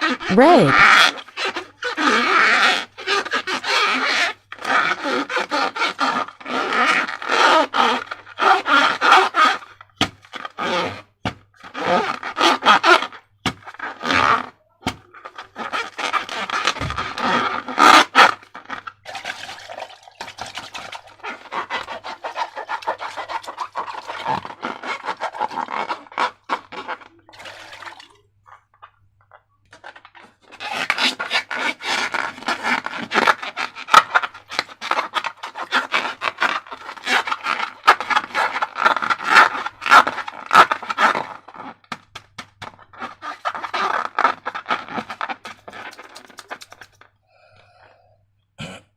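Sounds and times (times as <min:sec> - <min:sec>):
balloons and slime rubbing: 0:00.0 - 0:28.6, 0:29.8 - 0:47.5.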